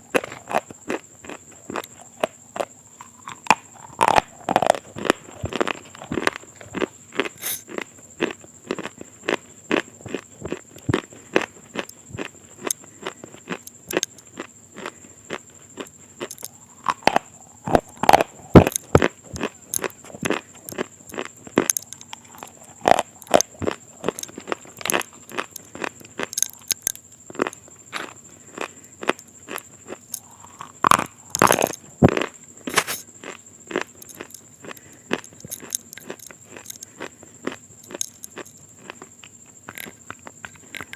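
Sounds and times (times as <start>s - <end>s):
crunchy food chewing: 0.0s - 40.9s.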